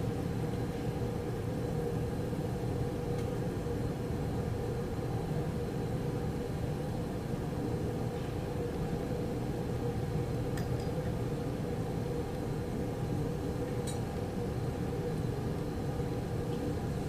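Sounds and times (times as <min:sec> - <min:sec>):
low machine hum with hiss: 0:00.0 - 0:17.0.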